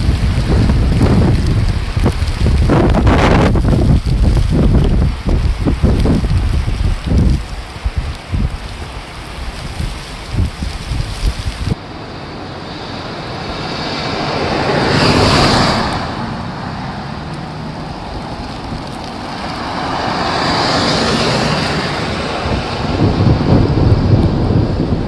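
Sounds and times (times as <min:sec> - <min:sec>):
vehicles passing by: 0:00.0 - 0:25.0.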